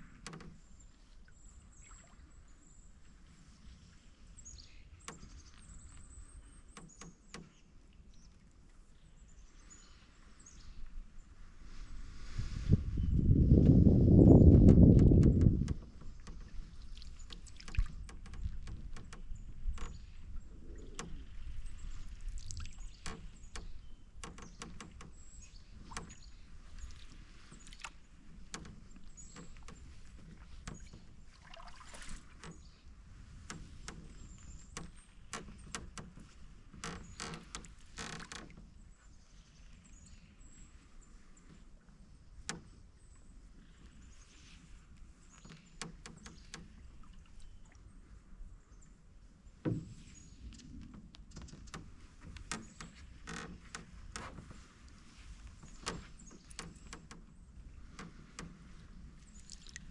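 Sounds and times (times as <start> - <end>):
canoe hull creaking and knocking: 0.0 - 1.2, 4.6 - 8.4, 12.6 - 48.2, 49.2 - 59.9
paddle strokes in water: 0.0 - 59.9.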